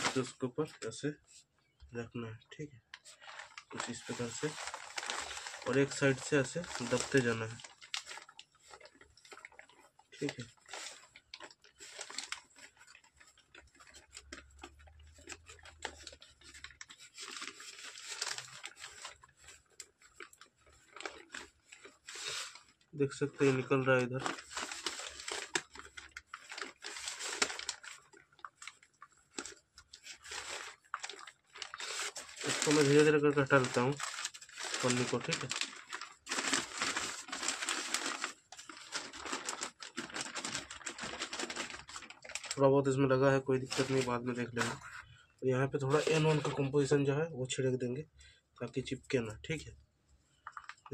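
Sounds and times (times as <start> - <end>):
plastic sheeting crinkling: 0.0 - 0.8, 2.9 - 47.0, 50.4 - 50.9.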